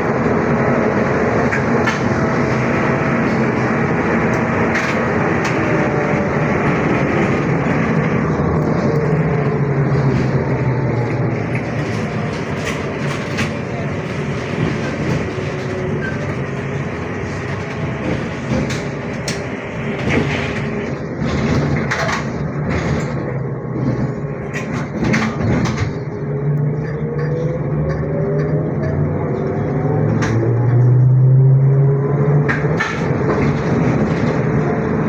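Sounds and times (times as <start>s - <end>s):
trolleybus running noise: 0.0s - 35.0s.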